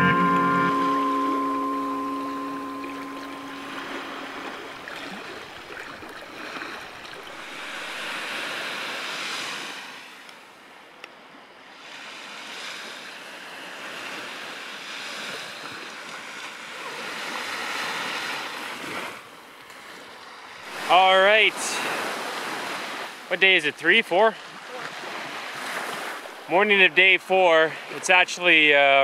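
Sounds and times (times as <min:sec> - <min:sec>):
waves washing up a beach: 0:01.7 - 0:29.0.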